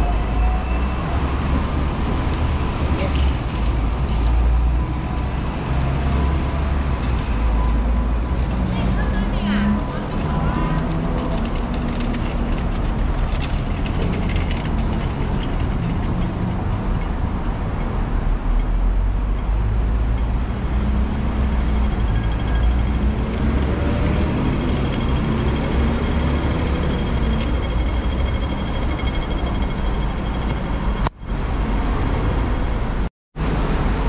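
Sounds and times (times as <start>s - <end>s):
tram rumble: 0.0s - 34.0s.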